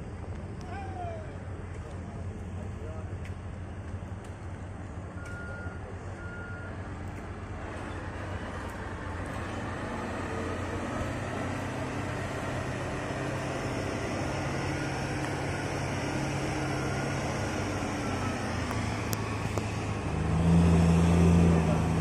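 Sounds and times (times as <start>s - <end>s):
deep engine tone: 0.0s - 22.0s
heavy machinery humming: 0.0s - 22.0s.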